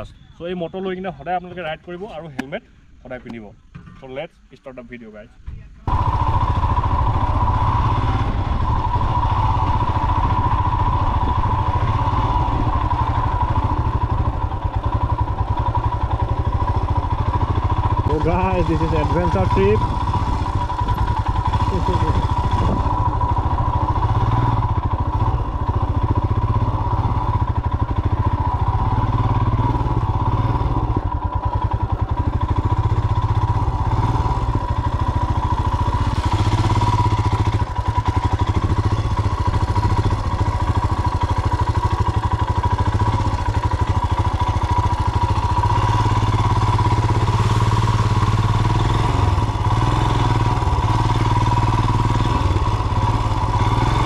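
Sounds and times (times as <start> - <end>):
motorcycle engine running: 5.5 - 54.0.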